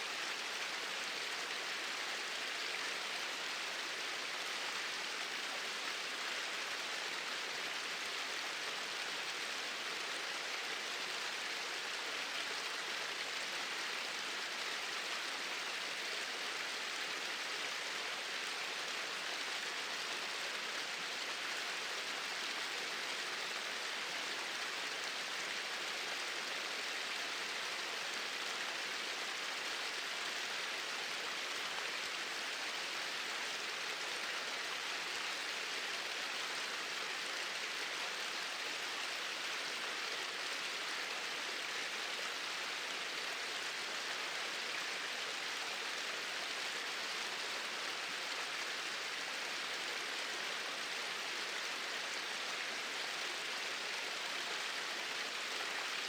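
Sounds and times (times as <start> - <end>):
small waterfalls pouring into stream: 0.0 - 56.0.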